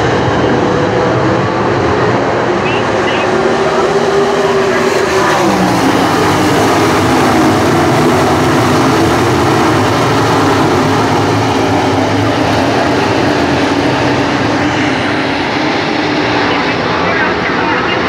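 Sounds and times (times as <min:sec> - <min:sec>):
race car engines roaring: 0:00.0 - 0:18.0.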